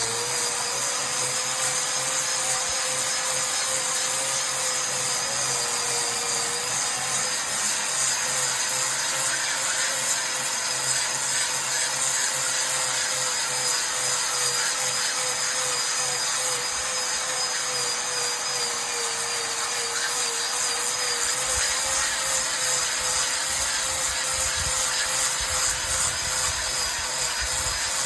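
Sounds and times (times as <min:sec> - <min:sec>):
gritty hiss of abrasive on stone: 0:00.0 - 0:28.0
polishing machine motor hum: 0:00.0 - 0:28.0.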